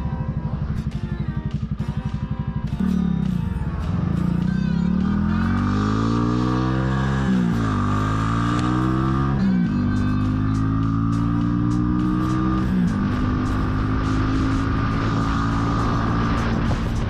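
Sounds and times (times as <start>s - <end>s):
background music: 0.0s - 17.0s
motorcycle engine accelerating: 0.0s - 17.0s.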